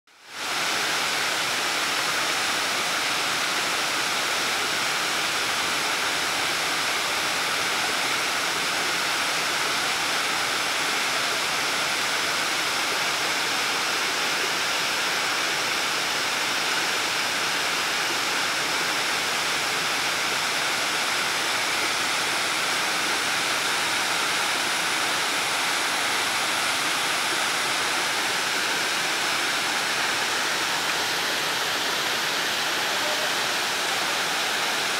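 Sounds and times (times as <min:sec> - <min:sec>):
fountain water splashing: 0:00.2 - 0:34.9.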